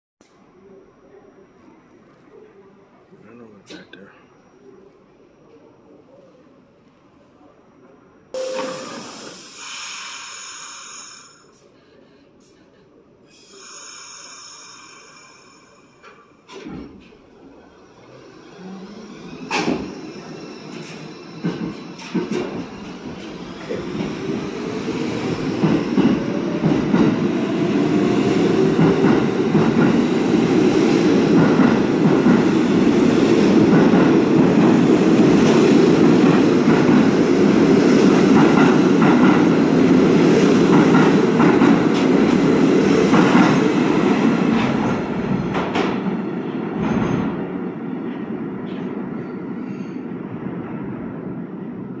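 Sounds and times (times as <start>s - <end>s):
subway train rumbling: 0.2s - 52.0s.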